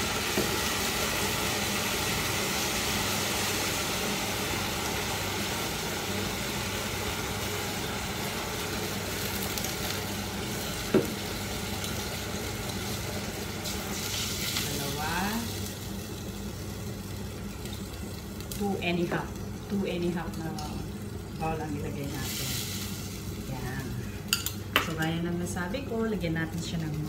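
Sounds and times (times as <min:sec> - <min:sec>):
beef sizzling in oil: 0:00.0 - 0:24.8
low electrical hum: 0:00.0 - 0:27.0.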